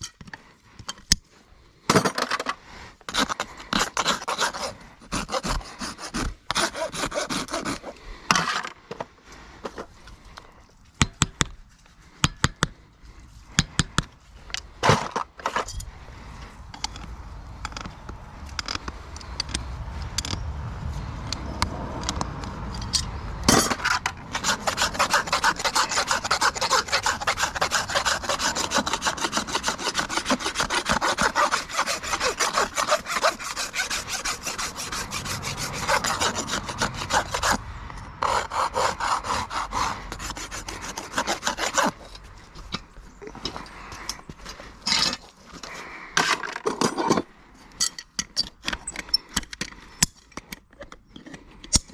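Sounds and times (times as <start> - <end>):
rasp scraping a hoof: 1.9 - 20.5, 21.2 - 51.9.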